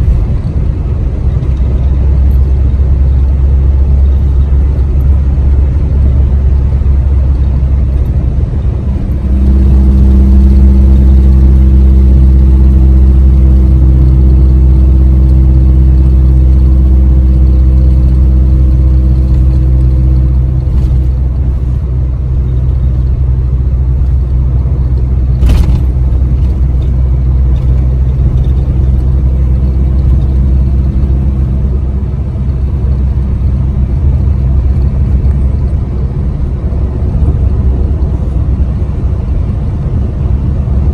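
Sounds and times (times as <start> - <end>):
pickup truck engine and road rumble: 0.0 - 40.9.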